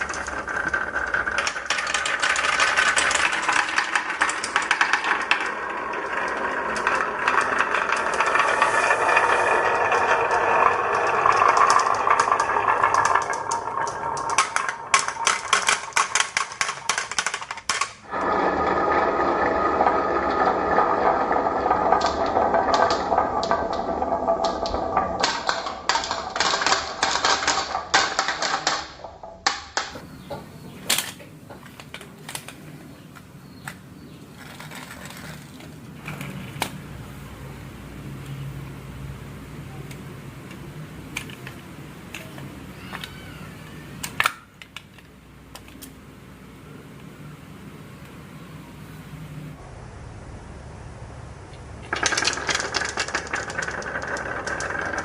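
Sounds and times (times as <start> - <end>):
marbles rolling on wooden run: 0.0 - 30.7, 31.5 - 36.9, 39.7 - 45.0, 51.8 - 55.0
marbles clacking: 0.0 - 36.9, 38.1 - 46.0, 51.8 - 55.0.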